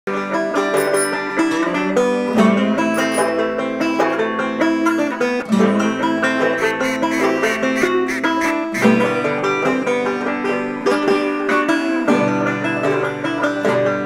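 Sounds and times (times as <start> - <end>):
plucked string instrument music: 0.1 - 14.0.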